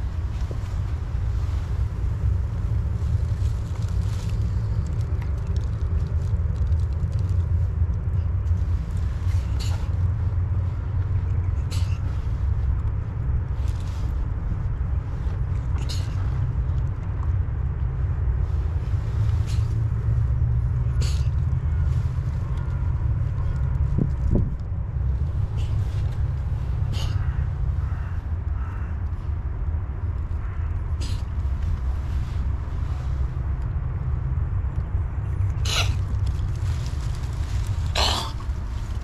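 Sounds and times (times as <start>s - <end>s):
low rumbling: 0.0s - 39.0s.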